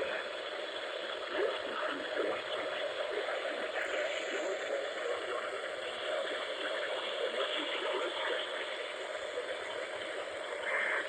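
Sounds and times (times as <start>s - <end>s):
radio static and hiss: 0.0s - 11.0s.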